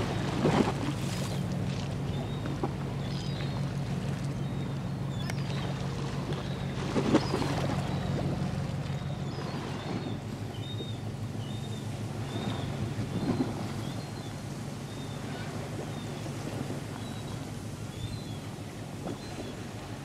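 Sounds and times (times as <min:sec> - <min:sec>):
ship engine drone: 0:00.0 - 0:20.0.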